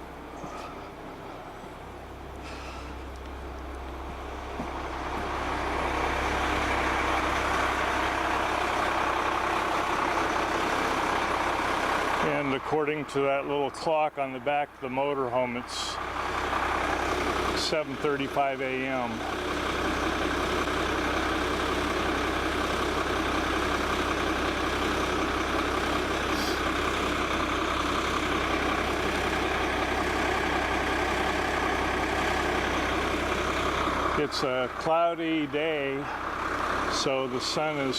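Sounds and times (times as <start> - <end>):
vehicle engine idling: 0.0 - 37.9.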